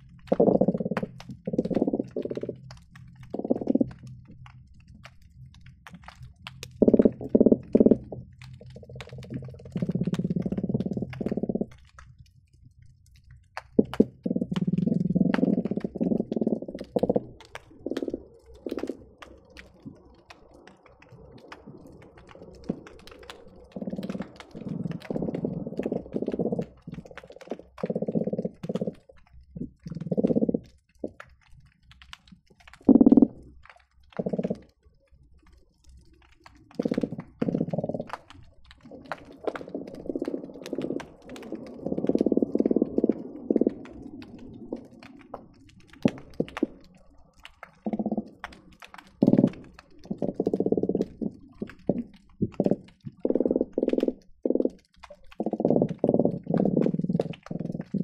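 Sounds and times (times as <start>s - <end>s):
fish drumming calls underwater: 0.0s - 58.0s.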